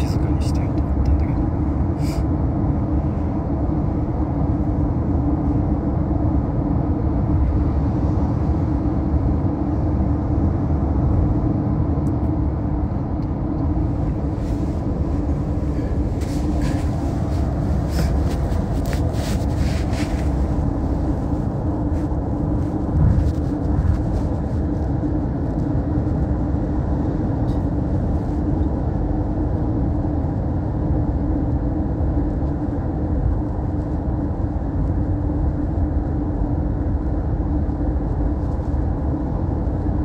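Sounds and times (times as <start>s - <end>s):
car cabin road and engine noise: 0.0s - 40.0s.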